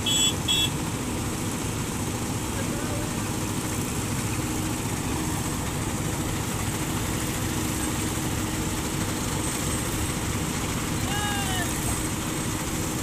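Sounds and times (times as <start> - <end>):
asphalt paver engine running: 0.0 - 13.0
truck engine running: 0.0 - 13.0.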